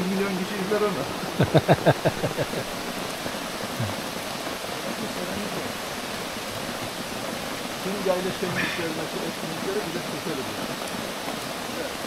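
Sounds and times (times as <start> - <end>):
rain on canopy and deck: 0.0 - 12.0.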